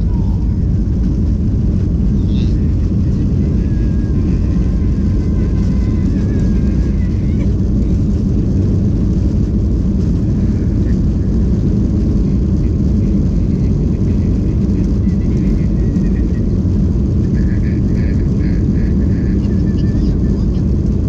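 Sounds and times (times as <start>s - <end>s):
rushing air: 0.0s - 19.1s
faint voices: 0.0s - 21.0s.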